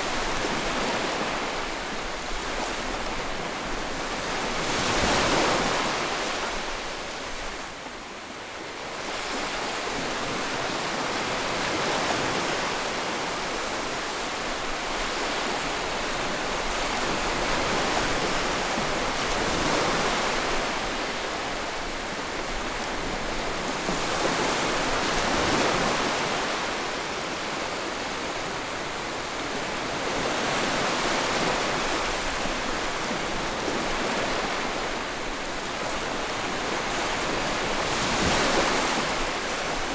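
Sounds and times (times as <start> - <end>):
ocean waves breaking: 0.0 - 7.6, 8.9 - 39.9.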